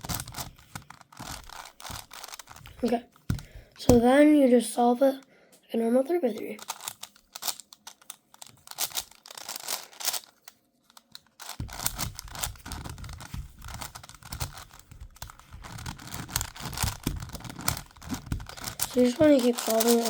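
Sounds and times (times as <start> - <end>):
puzzle cube clicking: 0.0 - 4.1, 6.4 - 20.0.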